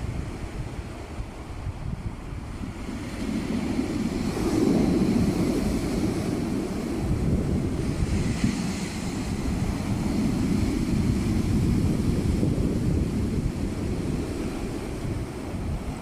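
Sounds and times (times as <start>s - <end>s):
sea waves breaking: 0.0s - 16.0s
wind buffeting microphone: 0.0s - 16.0s.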